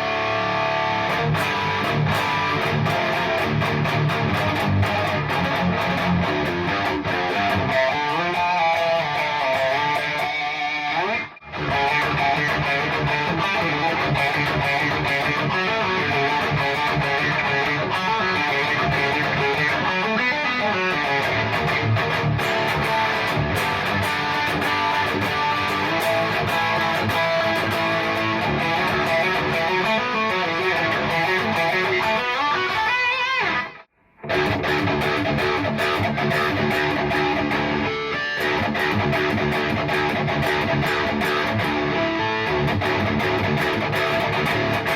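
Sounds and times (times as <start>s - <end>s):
electric guitar playing: 0.0s - 44.9s.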